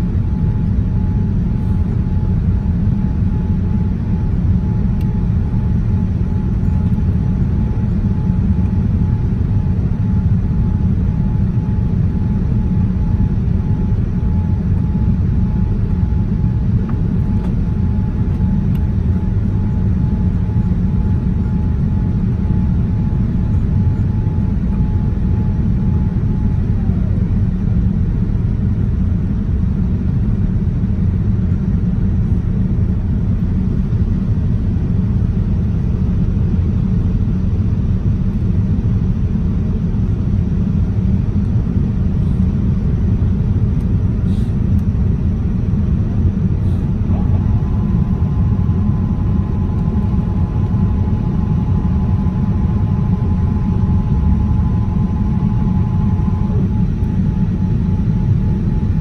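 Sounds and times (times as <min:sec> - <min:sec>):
jet engines and airflow rumble: 0:00.0 - 0:59.0
steady whine: 0:00.0 - 0:59.0.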